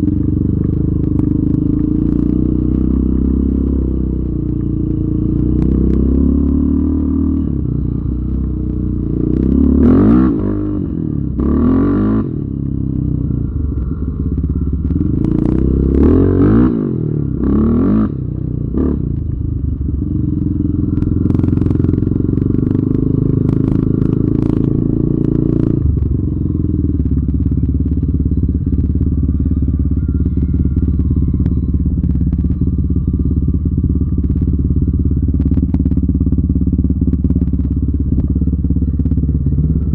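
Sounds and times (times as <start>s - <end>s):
atv engine revving: 0.0s - 39.9s
clatter: 0.0s - 39.9s.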